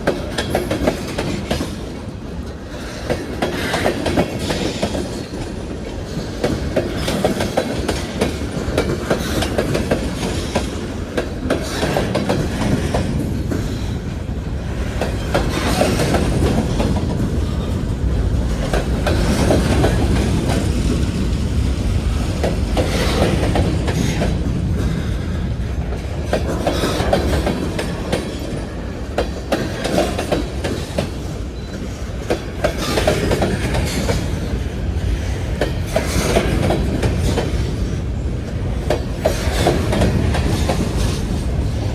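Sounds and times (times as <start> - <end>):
freight train rumbling past: 0.0 - 41.9
wheels clacking over rail joints: 0.0 - 41.9.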